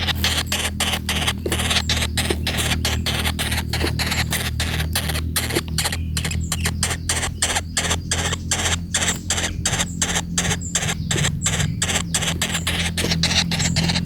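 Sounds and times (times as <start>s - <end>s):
low steady hum: 0.0s - 14.0s
nestlings begging calls: 0.0s - 14.0s.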